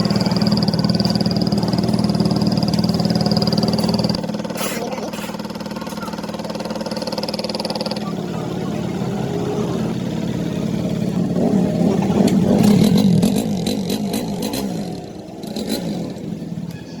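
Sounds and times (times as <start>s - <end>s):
sharp engine ticking: 0.0s - 4.6s, 5.4s - 16.7s
motorcycle engine revving: 0.0s - 16.9s.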